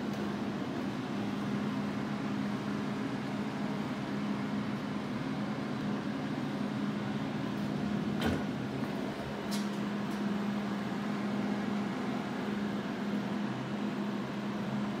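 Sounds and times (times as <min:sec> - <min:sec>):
milling machine hum: 0:00.0 - 0:15.0.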